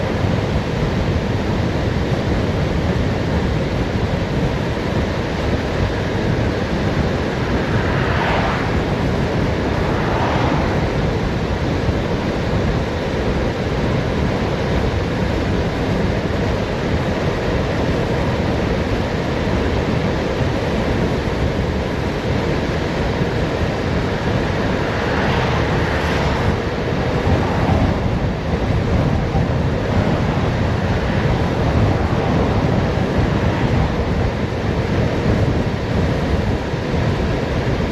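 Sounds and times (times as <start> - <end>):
wind rushing over microphone: 0.0 - 37.9.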